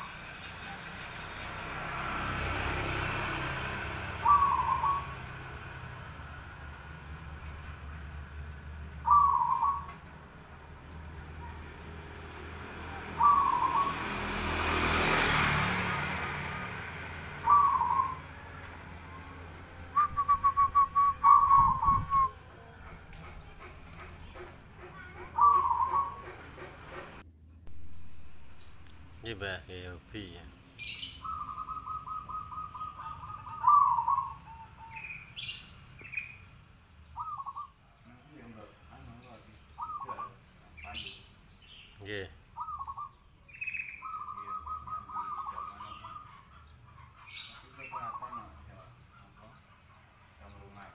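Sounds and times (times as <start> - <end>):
birds chirping: 0.0 - 50.9
doves cooing: 2.4 - 27.2, 30.8 - 36.4, 37.1 - 41.2, 42.0 - 50.9.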